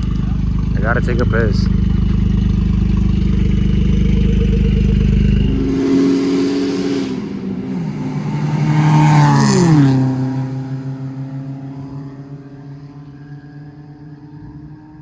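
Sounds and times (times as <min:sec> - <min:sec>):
car engine idling: 0:00.0 - 0:13.2
car driving past: 0:00.0 - 0:15.0.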